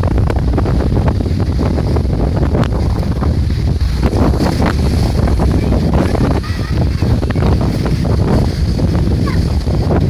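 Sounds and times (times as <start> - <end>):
waves breaking against a sea wall: 0.0 - 10.0
wind buffeting microphone: 0.0 - 10.0.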